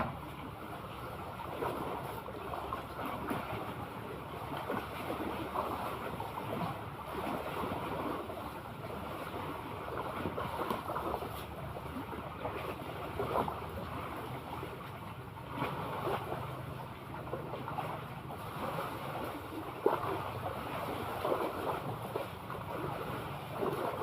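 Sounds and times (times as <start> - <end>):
sea waves lapping: 0.0 - 24.0.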